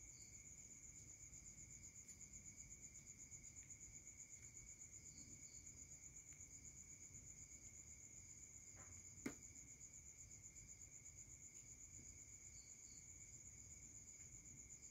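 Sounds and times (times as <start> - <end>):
crickets trilling: 0.0 - 14.9.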